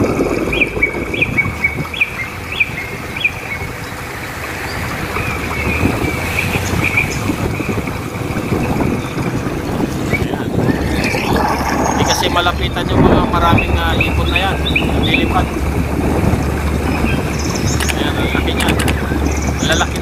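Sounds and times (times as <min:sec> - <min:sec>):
gulls calling: 0:00.0 - 0:20.0
steady low rumble: 0:00.0 - 0:20.0.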